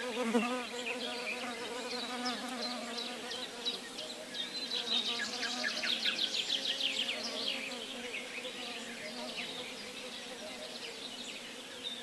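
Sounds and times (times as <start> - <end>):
insect buzzing: 0.0 - 12.0.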